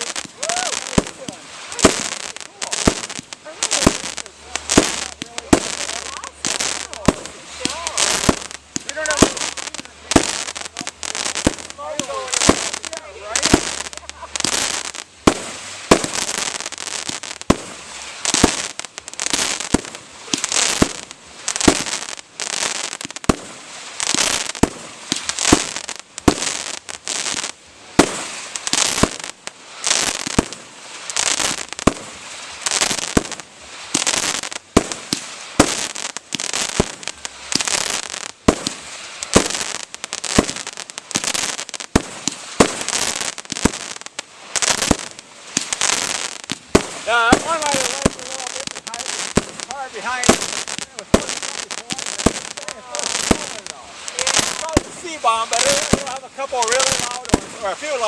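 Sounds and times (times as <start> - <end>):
fireworks banging: 0.0 - 58.0
fireworks crackling hiss: 0.0 - 58.0.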